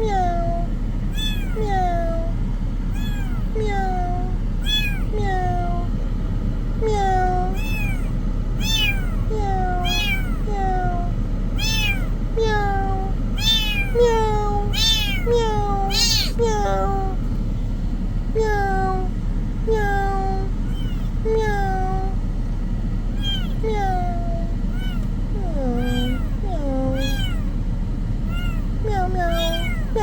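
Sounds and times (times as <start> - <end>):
kitten meowing: 0.0 - 2.3, 2.9 - 5.9, 6.8 - 17.2, 18.4 - 19.1, 19.7 - 22.2, 23.1 - 27.6, 28.2 - 30.0
low hum: 0.1 - 30.0.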